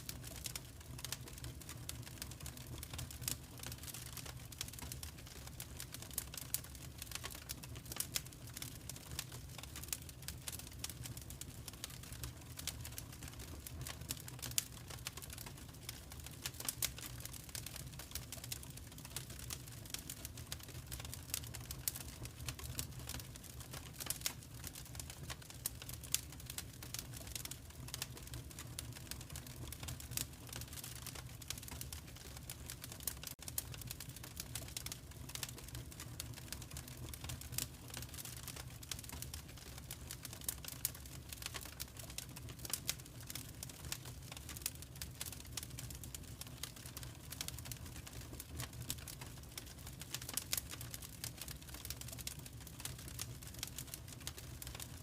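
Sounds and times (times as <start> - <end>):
low fire rumble: 0.0 - 55.0
wood fire crackling: 0.0 - 55.0.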